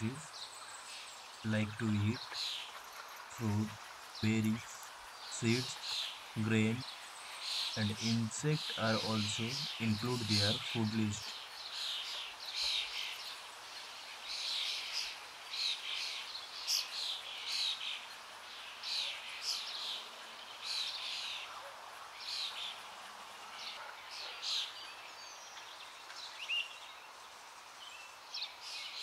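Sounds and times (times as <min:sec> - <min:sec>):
birds chirping: 0:00.0 - 0:29.0
faint background hiss: 0:00.0 - 0:29.0.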